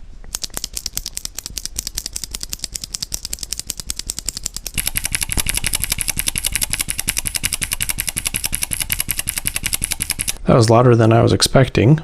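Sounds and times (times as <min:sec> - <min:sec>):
mechanical keyboard switch clicking: 0:00.3 - 0:10.4.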